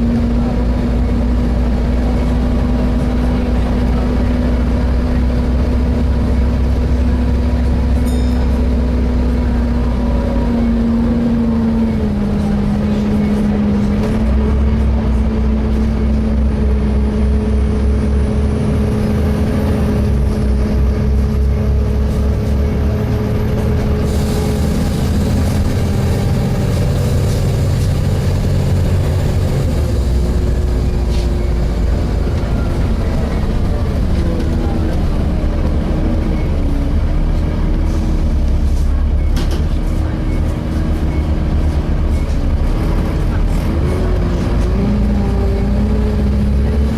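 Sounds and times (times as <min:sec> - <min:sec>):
bus diesel engine running: 0:00.0 - 0:46.9.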